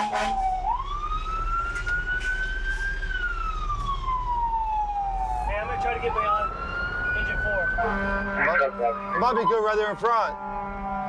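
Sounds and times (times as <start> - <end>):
fire engine siren wailing: 0.0 - 11.0.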